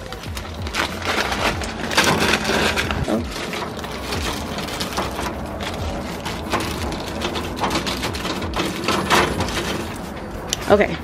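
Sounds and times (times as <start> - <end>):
plastic wrappers crinkling: 0.0 - 10.8.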